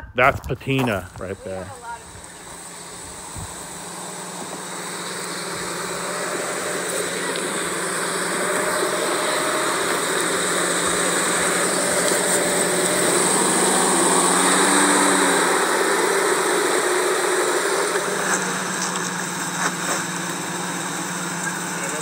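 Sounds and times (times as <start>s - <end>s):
vehicle engine revving: 0.6s - 22.0s.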